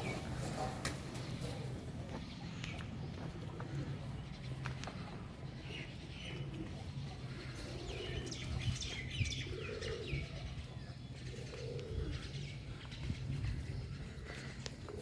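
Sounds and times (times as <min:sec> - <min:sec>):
birds chirping: 0:00.0 - 0:15.0
low bird calls: 0:00.0 - 0:15.0.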